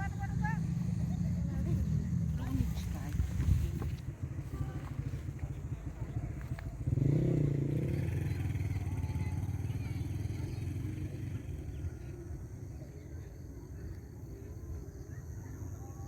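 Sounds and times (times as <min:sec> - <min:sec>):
vehicle engine running: 0:00.0 - 0:15.7.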